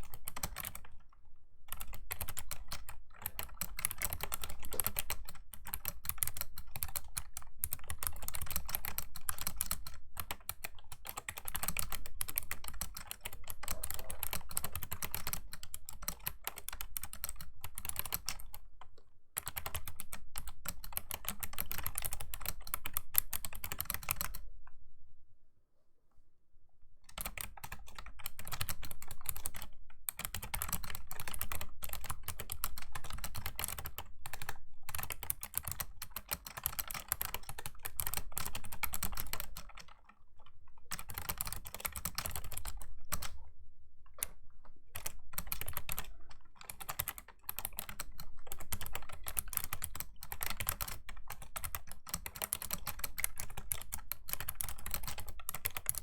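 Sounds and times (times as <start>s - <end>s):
fast typing on keyboard: 0.0s - 24.4s, 27.1s - 43.5s, 44.2s - 56.0s.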